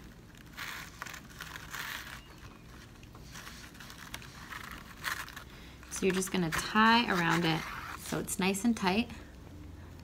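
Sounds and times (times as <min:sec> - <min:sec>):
artificial flower rustling: 0:00.0 - 0:08.4.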